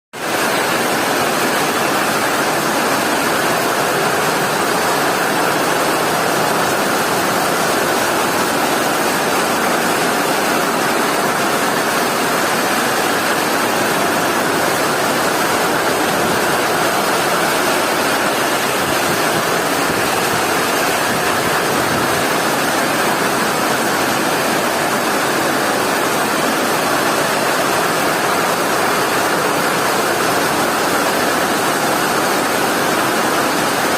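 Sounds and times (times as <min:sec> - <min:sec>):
rain falling: 0:00.2 - 0:33.9.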